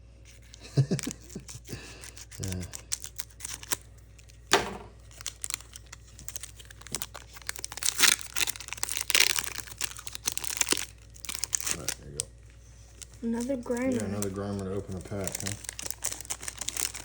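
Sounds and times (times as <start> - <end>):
foil wrapper crinkling and tearing: 0.2 - 17.0.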